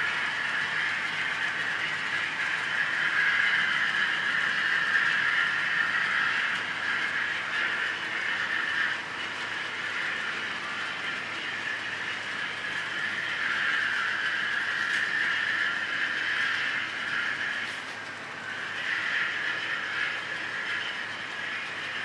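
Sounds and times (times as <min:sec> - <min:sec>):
model train wheels whirring: 0:00.0 - 0:22.0.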